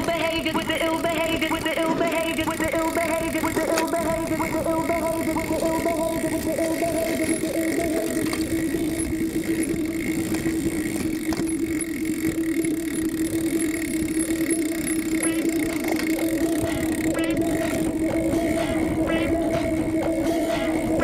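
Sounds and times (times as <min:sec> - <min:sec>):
motorcycle engine running: 0:00.0 - 0:21.0
rumble from bumpy dirt track: 0:00.0 - 0:21.0.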